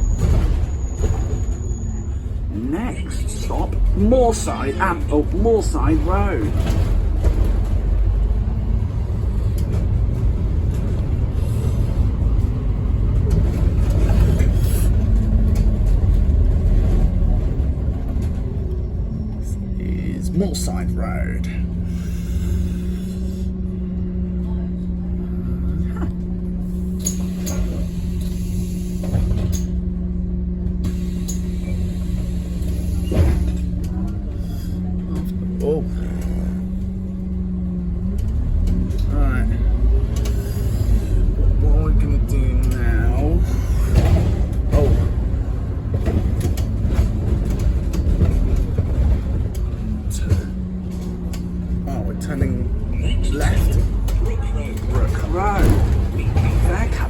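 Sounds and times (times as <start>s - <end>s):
bus engine rumbling: 0.0s - 57.0s.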